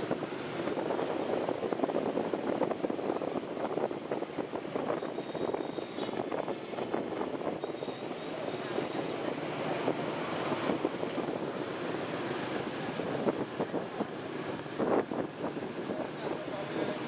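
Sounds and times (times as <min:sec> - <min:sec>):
wind buffeting microphone: 0:00.0 - 0:11.9, 0:12.6 - 0:16.5
motorbike traffic: 0:00.0 - 0:17.0.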